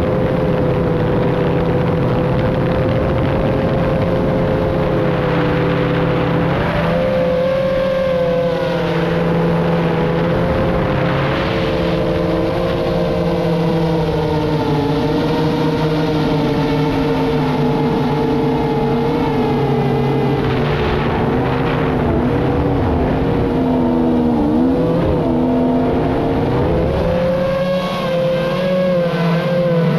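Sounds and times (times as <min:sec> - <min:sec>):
rush of wind: 0:00.0 - 0:29.9.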